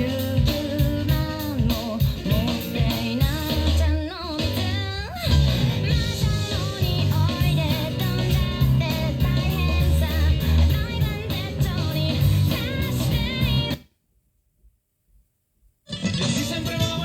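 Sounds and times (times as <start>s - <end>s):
rock song through speaker: 0.0s - 13.8s, 15.9s - 17.0s.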